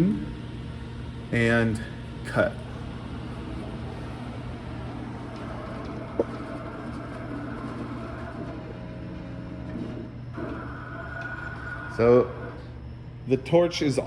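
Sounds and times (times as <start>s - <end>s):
stepper motors humming and whining: 0.0s - 14.0s.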